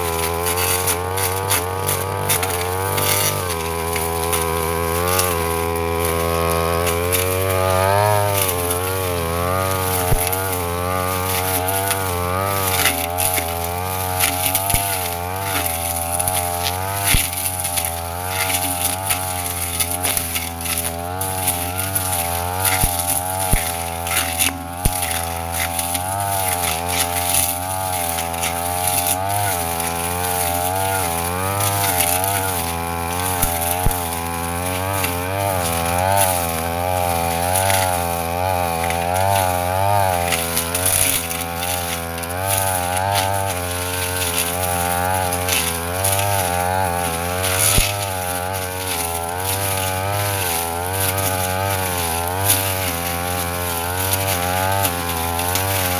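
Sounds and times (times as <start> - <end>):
brush cutter engine revving: 0.0 - 55.9.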